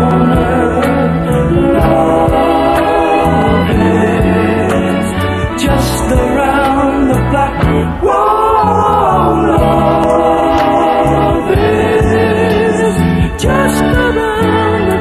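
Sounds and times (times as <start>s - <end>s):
bass and steady beat: 0.0s - 8.1s, 8.7s - 15.0s
vocal group singing in harmony: 0.0s - 15.0s.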